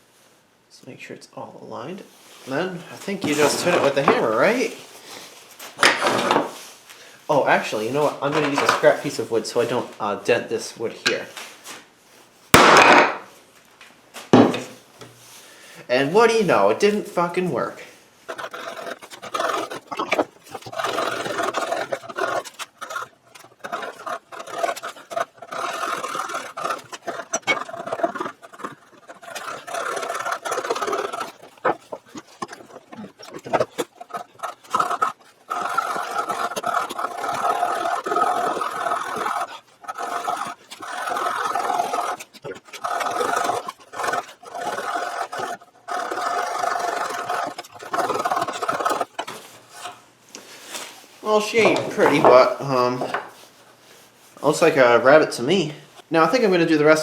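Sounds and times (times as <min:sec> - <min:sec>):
hand tool scraping wood: 0:02.4 - 0:09.9, 0:12.6 - 0:13.3, 0:15.9 - 0:57.0.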